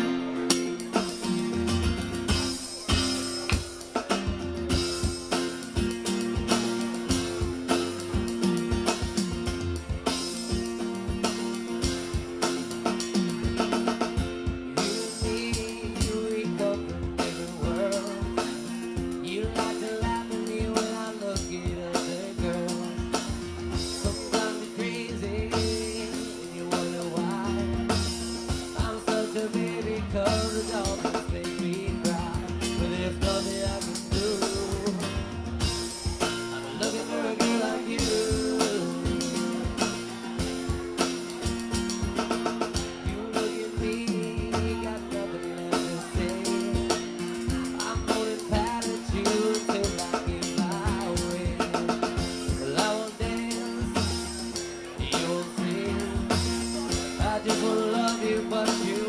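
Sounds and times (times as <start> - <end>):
man singing: 0.0 - 3.4, 4.7 - 41.6, 42.5 - 59.0
drum beat played with sticks: 0.0 - 59.0
guitar: 0.0 - 59.0.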